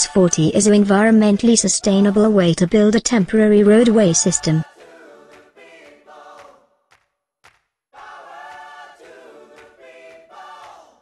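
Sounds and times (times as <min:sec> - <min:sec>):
music with choir-like voices: 0:00.0 - 0:02.6, 0:03.7 - 0:06.8, 0:08.0 - 0:11.0.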